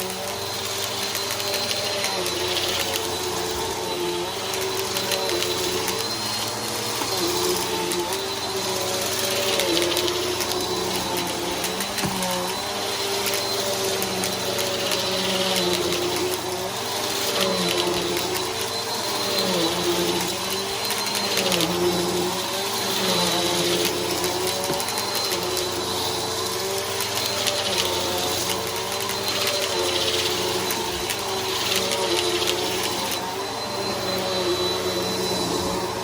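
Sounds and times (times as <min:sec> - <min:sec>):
vacuum cleaner motor whine: 0:00.0 - 0:36.0.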